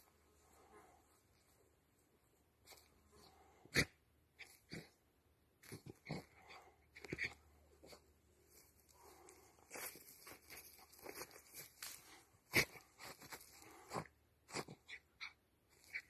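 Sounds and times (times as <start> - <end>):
rustling of soil and leaves: 0.0 - 3.7, 5.6 - 15.1, 15.7 - 16.0.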